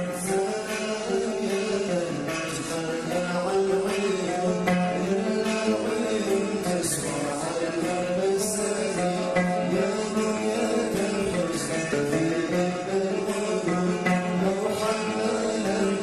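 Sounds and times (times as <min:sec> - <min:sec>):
steady percussion rhythm: 0:00.0 - 0:16.0.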